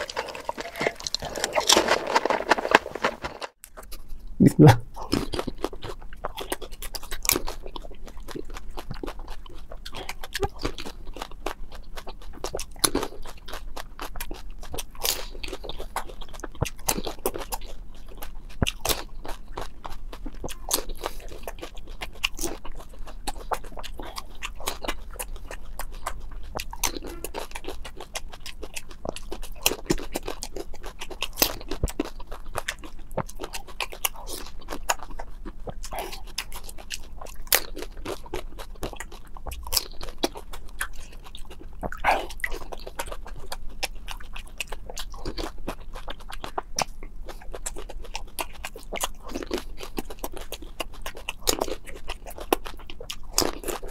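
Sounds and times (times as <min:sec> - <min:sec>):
crunching and chewing food: 0:00.0 - 0:53.9.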